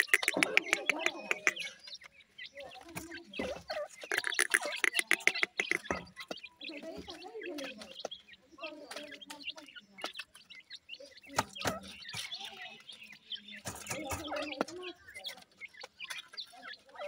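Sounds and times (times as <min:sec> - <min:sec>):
beaks pecking gravelly soil: 0:00.0 - 0:17.0
chicks chirping and peeping: 0:00.0 - 0:17.0.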